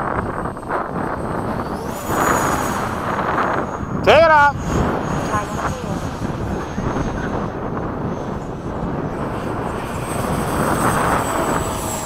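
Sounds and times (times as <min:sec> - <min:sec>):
model jet fan rushing: 0:00.0 - 0:12.0
wind rumbling on microphone: 0:00.0 - 0:12.0.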